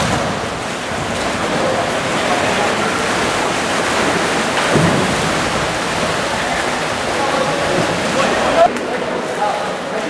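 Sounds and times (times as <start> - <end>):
water splashing and churning: 0.0 - 10.0.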